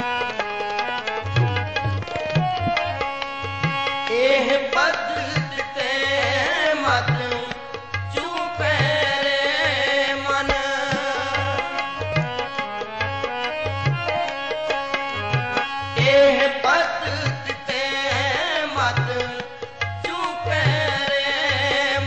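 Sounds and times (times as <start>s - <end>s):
harmonium melody: 0.0s - 22.0s
steady tabla beat: 0.0s - 22.0s.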